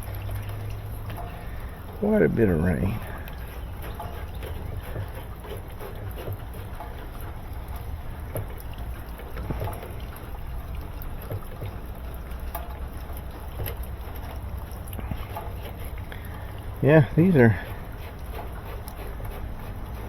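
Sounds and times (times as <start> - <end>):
steady rain falling: 0.0 - 5.2, 6.6 - 20.0
ticks of raindrops: 0.0 - 20.0.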